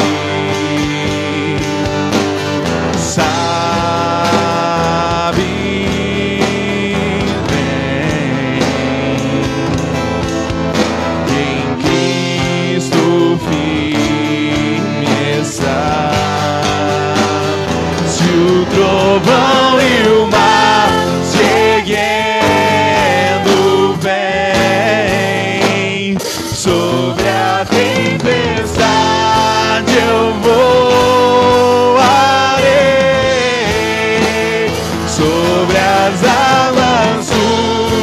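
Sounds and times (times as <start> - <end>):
acoustic guitar: 0.0 - 38.0
person singing worship song: 0.0 - 38.0.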